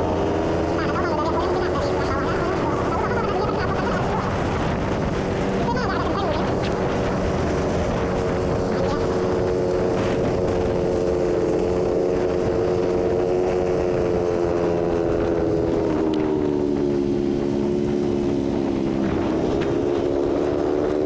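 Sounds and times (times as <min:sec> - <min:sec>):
road rumble: 0:00.0 - 0:21.0
scooter engine droning: 0:00.0 - 0:21.0
wind: 0:00.0 - 0:21.0.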